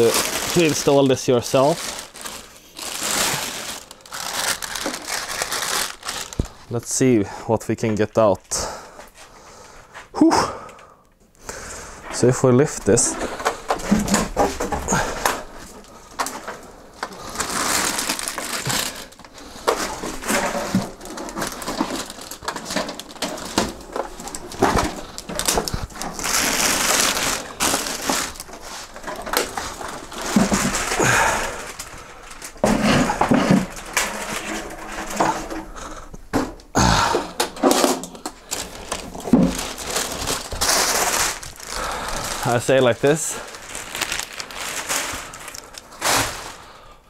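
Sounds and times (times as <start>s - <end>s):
foam packing creaking: 0.0s - 7.2s, 11.5s - 46.9s
plastic bag crinkling: 0.0s - 7.2s, 12.2s - 47.0s.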